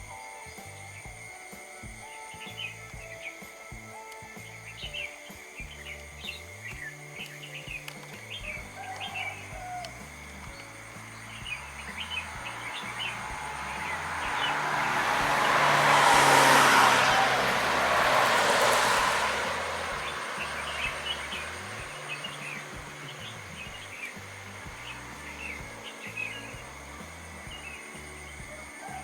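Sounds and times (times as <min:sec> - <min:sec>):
road vehicle passing: 0:00.0 - 0:29.0
small birds chirping: 0:00.0 - 0:29.0.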